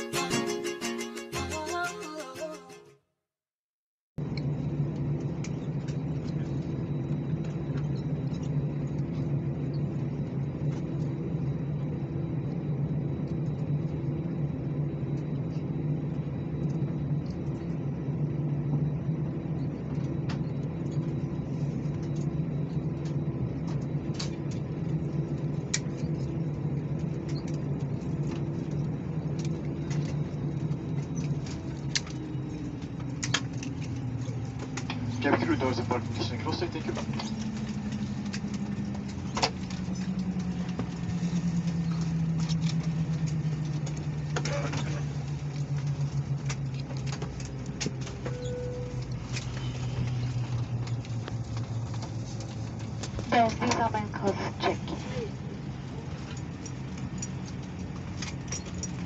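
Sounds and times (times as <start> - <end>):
jet engines idling drone: 4.2 - 59.0.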